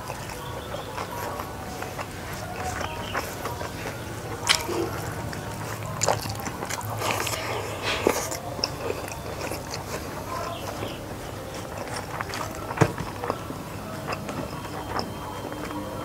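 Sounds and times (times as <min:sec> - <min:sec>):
fingers gathering rice: 0:00.0 - 0:16.0
man chewing rice: 0:00.0 - 0:16.0.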